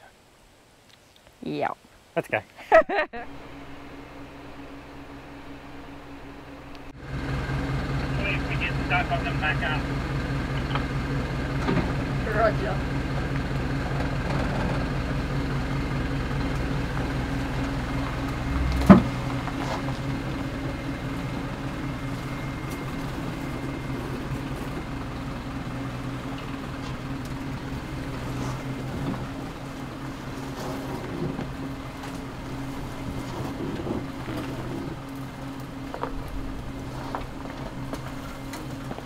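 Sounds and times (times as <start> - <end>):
diesel truck engine under load: 3.2 - 39.0.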